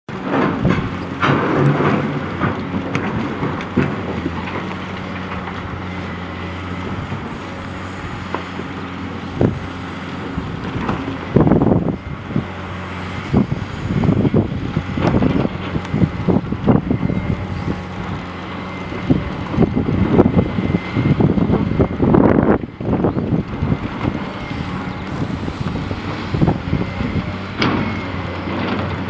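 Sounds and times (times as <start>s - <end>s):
distant diesel engine running: 0.1s - 29.0s
wind buffeting microphone: 0.1s - 29.0s.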